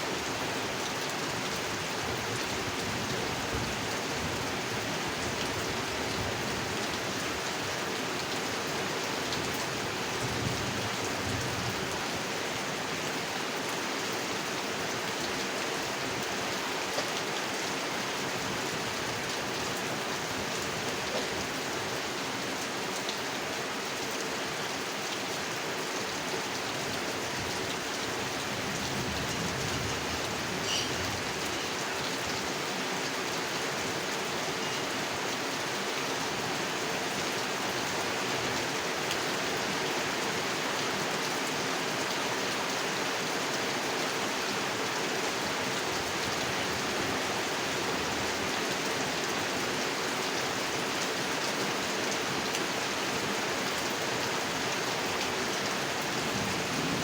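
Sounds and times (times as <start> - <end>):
rain falling on pond: 0.0 - 57.0.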